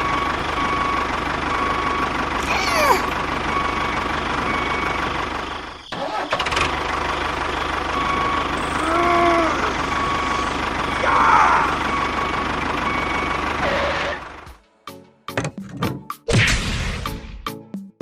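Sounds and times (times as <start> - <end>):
mini tractor engine running: 0.0 - 14.5.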